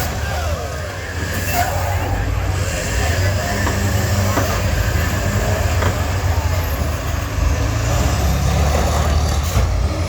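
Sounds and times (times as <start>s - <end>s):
bus engines low rumble: 0.0s - 10.0s.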